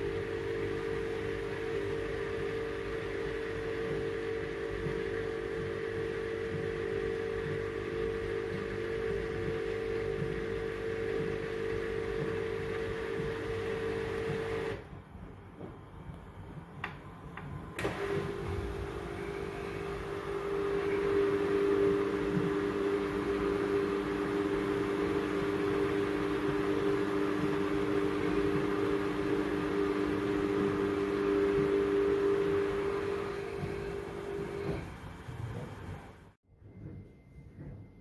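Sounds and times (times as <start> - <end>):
washing machine drum motor humming: 0.0 - 37.9.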